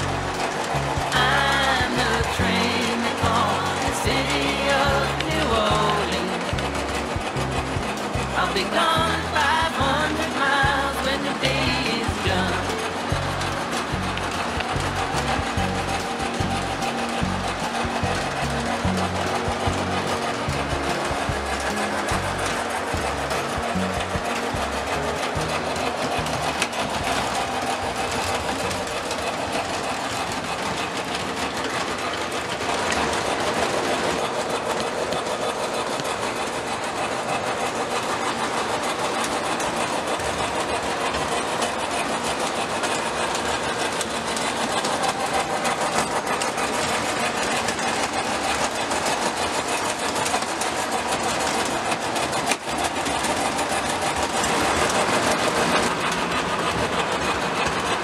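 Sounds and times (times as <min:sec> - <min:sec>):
model train motors whirring: 0:00.0 - 0:58.0
wheels rattling on rails: 0:00.0 - 0:58.0.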